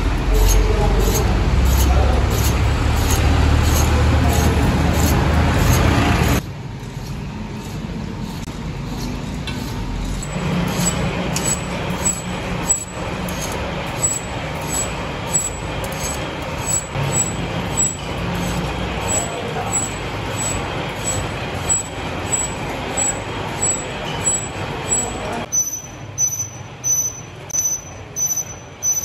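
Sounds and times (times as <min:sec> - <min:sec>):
workshop machinery humming: 0:00.0 - 0:29.0.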